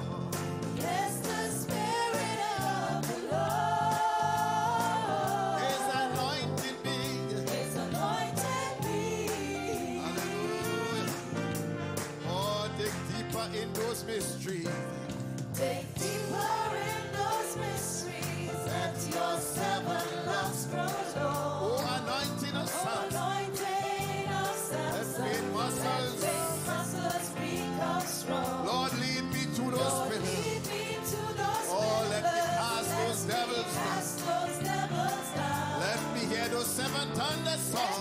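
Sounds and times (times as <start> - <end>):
gospel worship music: 0.0 - 38.0.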